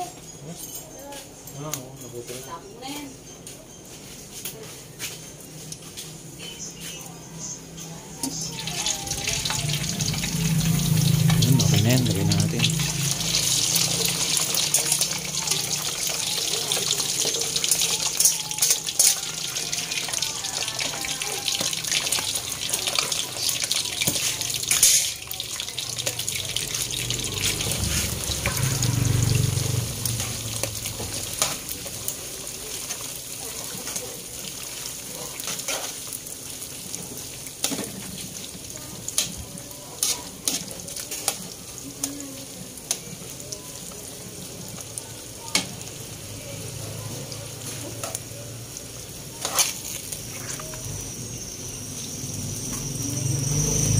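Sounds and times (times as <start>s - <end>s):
deep-frying sizzle with pops: 0.0s - 53.9s.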